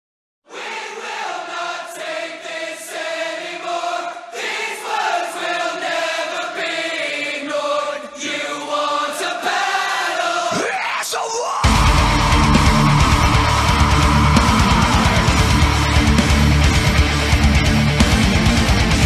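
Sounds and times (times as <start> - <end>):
choir singing long held notes: 0.5 - 10.7, 11.6 - 19.0.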